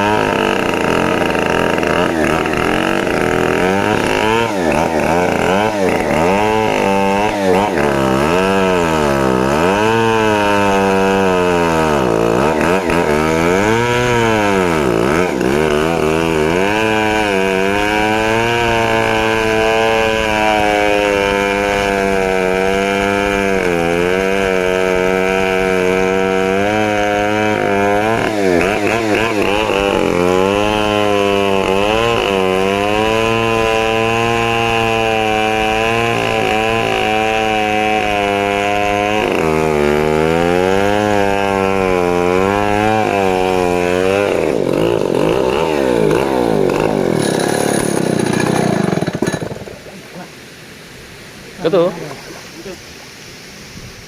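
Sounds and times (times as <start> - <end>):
chainsaw cutting wood: 0.0 - 50.2.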